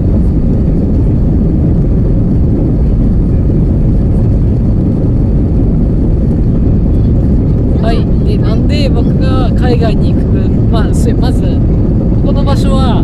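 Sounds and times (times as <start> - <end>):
jet engines and airflow roar: 0.0 - 13.0.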